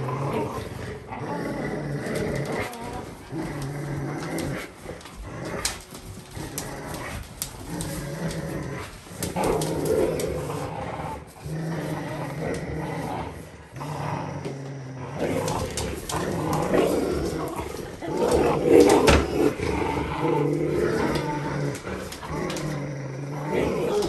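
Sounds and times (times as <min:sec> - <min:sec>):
dogs play growling: 0:00.0 - 0:24.0.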